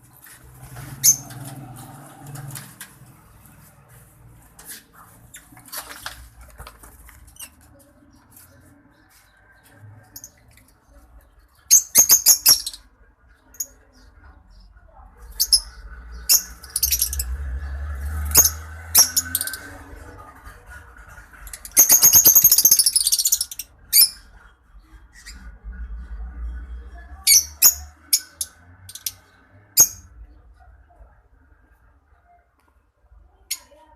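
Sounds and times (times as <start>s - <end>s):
birds chirping and squawking: 0.2s - 30.6s.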